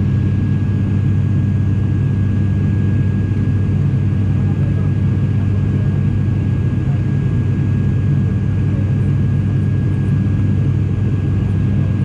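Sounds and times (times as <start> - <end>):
airliner engine drone: 0.0 - 12.0.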